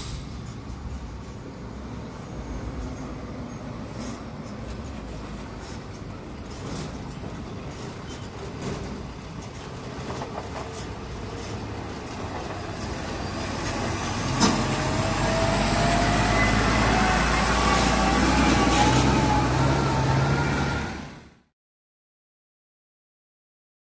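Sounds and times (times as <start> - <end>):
truck diesel engine passing: 0.0 - 21.5.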